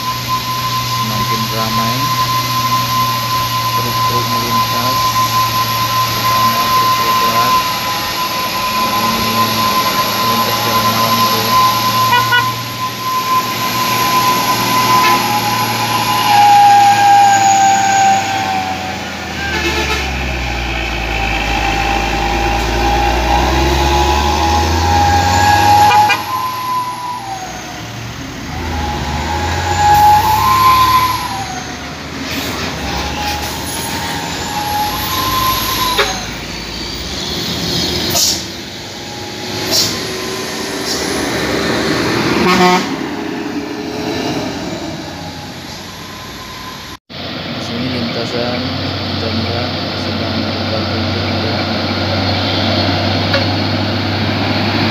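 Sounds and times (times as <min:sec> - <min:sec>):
diesel truck engines rumbling: 0:00.0 - 0:54.9
truck engine whine: 0:00.0 - 0:54.9.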